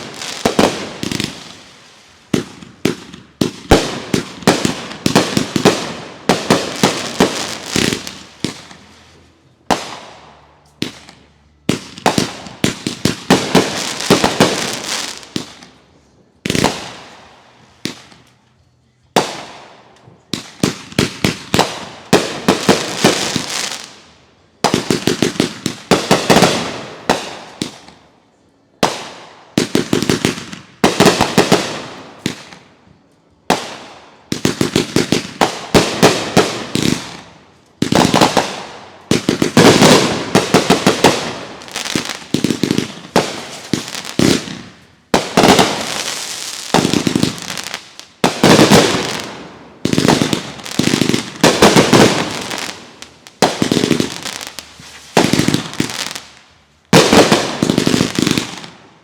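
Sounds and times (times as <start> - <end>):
fireworks bangs and crackles: 0.0 - 28.1, 28.8 - 59.0.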